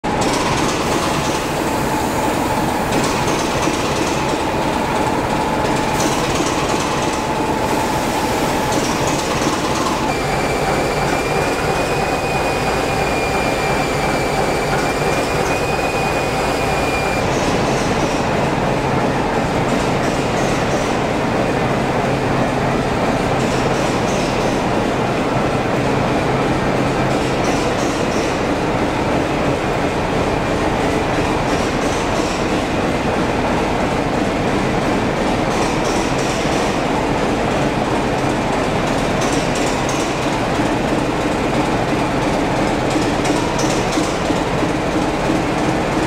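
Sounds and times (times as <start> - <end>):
train rumble: 0.0 - 46.0.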